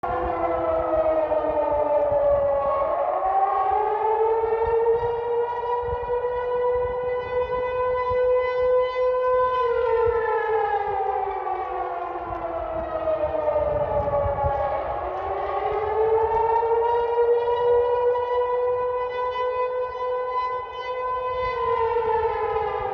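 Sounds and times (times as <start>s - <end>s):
warning siren wailing: 0.0s - 22.9s.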